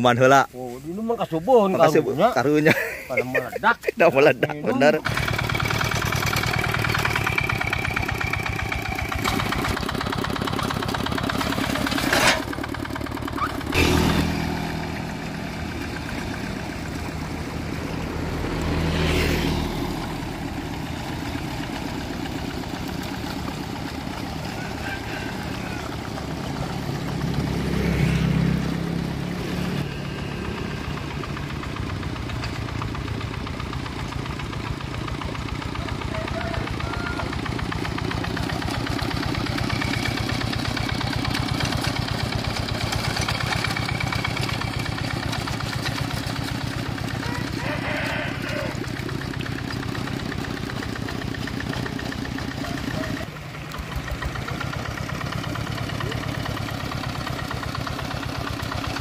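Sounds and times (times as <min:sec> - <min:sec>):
single-cylinder diesel engine running: 0:00.0 - 0:59.0.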